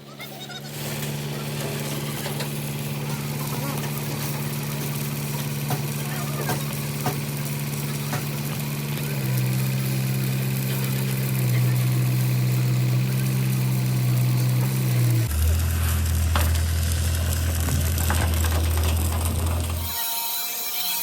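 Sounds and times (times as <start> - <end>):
motor running with low hum: 0.6 - 20.0.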